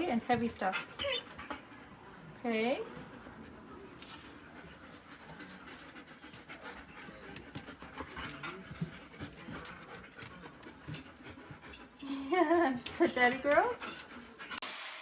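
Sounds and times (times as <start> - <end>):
dog panting: 0.0 - 14.6.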